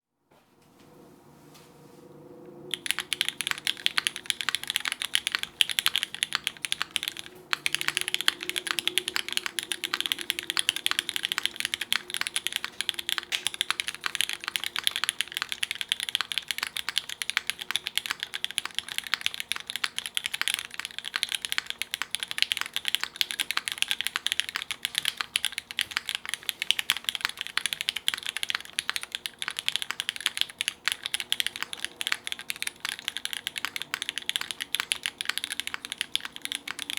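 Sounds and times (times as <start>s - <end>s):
mechanical keyboard typing: 2.7s - 36.9s.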